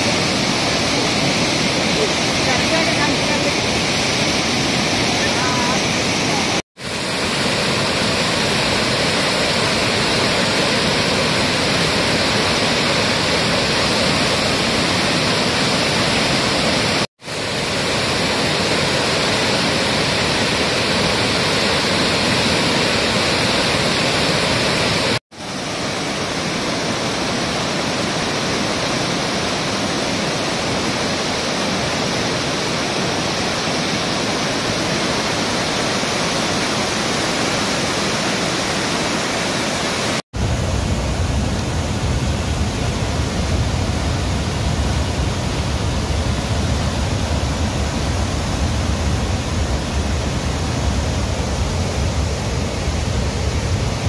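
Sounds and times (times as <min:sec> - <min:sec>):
floodwater rushing through spillway: 0:00.0 - 0:54.0.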